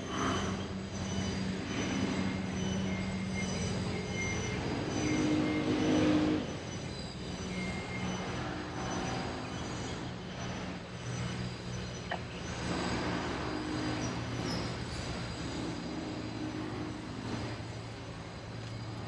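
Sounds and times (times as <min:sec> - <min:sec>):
steady low hum: 0:00.0 - 0:19.0
train wheels squealing: 0:00.0 - 0:19.0.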